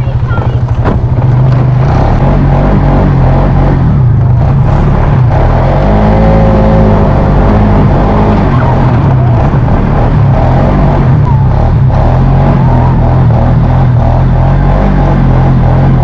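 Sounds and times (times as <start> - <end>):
atv engine droning: 0.0 - 16.0.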